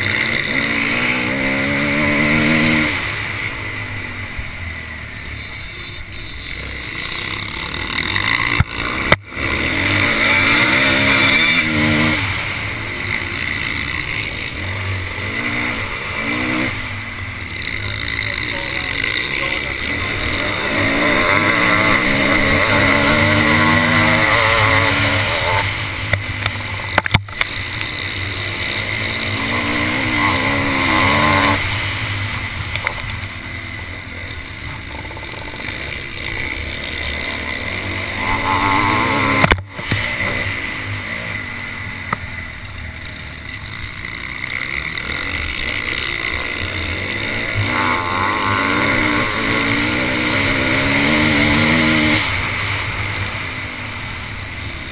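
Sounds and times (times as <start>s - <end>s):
motocross bike engine revving: 0.0s - 54.9s
steady rush of noise: 0.0s - 54.9s.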